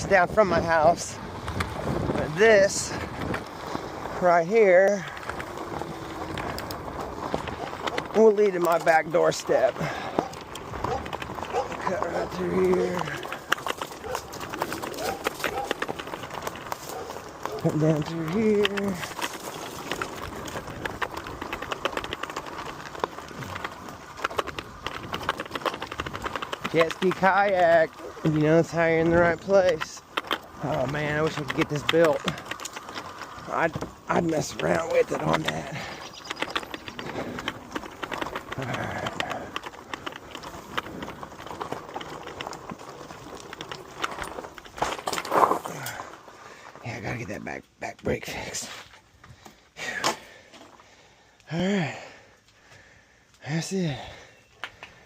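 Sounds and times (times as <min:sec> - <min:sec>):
tyre rolling noise: 0:00.0 - 0:47.4
bike rattling on rough trail: 0:00.0 - 0:55.0.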